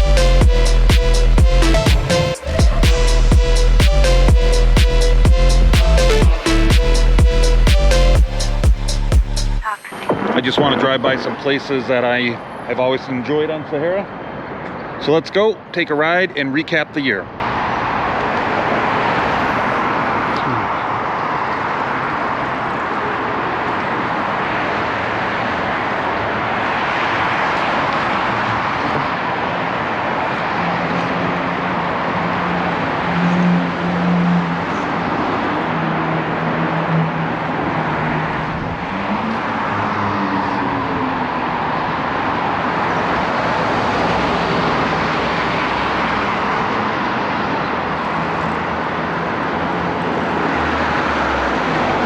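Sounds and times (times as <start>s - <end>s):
passing vehicle engine hum: 0.0s - 9.6s, 17.4s - 52.0s
road traffic noise: 0.0s - 52.0s.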